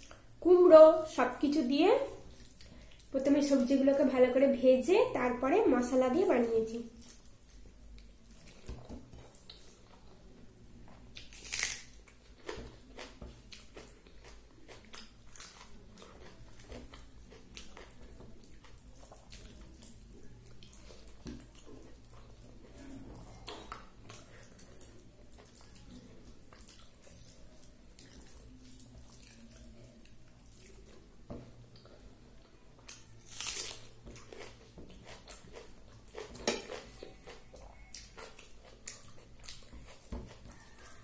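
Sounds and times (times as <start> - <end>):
chewing: 6.9 - 10.2, 10.9 - 41.0.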